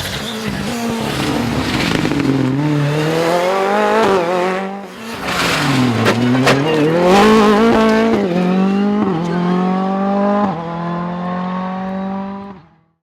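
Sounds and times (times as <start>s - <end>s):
rally car engine at high revs: 0.0s - 12.9s.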